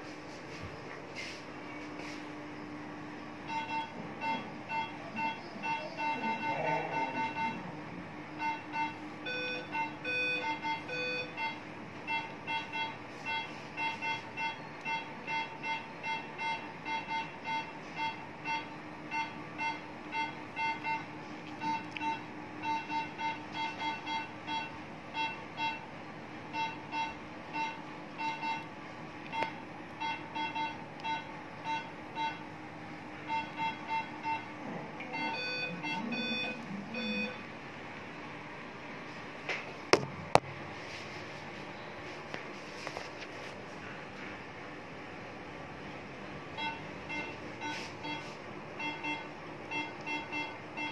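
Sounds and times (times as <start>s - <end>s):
steady low hum: 0.0s - 50.9s
patient monitor beeping: 1.7s - 37.7s, 45.8s - 50.9s.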